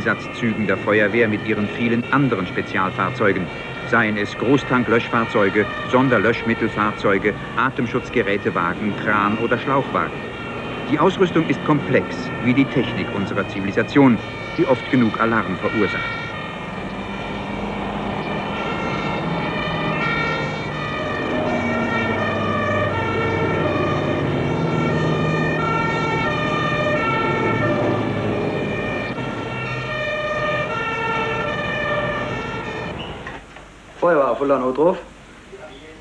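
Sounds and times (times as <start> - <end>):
two-tone fire engine sirens: 0.0 - 33.4
engine and road noise: 0.0 - 36.0.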